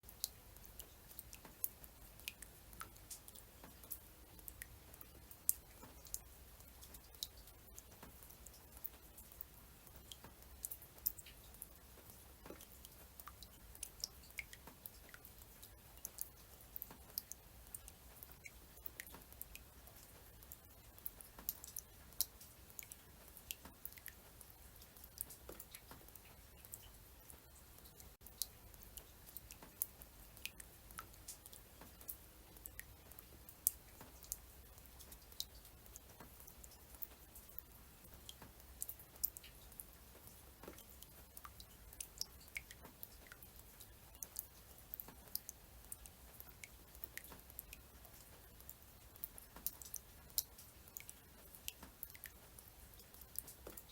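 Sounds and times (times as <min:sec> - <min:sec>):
raindrops ticking and patting: 0:00.0 - 0:53.9.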